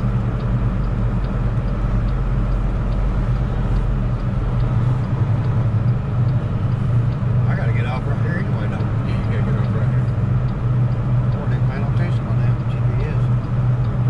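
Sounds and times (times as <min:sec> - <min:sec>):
faint ticking: 0:00.0 - 0:14.0
road noise: 0:00.0 - 0:14.0
truck diesel engine running: 0:00.0 - 0:14.0.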